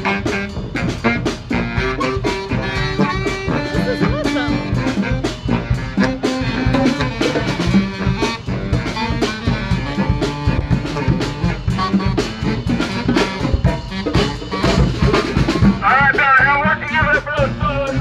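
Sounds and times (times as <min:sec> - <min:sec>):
brass band playing: 0:00.0 - 0:18.0
steady drum beat: 0:00.0 - 0:18.0.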